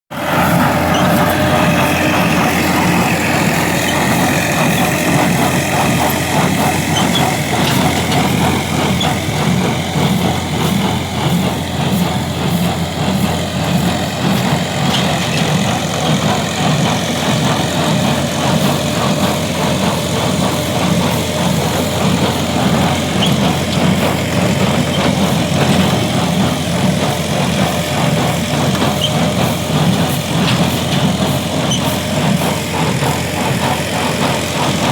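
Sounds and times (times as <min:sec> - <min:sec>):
square baler working: 0:00.1 - 0:34.9
tractor engine under load: 0:00.1 - 0:34.9.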